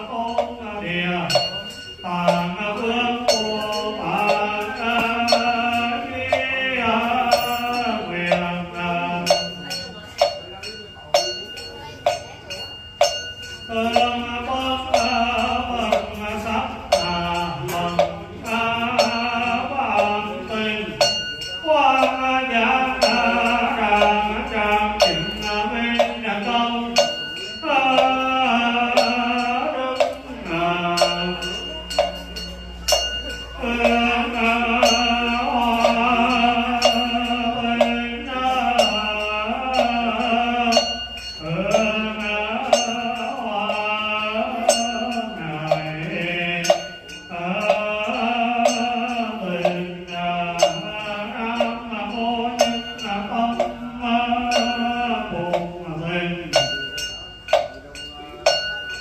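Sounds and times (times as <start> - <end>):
person chanting melodically: 0.0 - 59.0
sharp percussive strikes: 0.0 - 59.0.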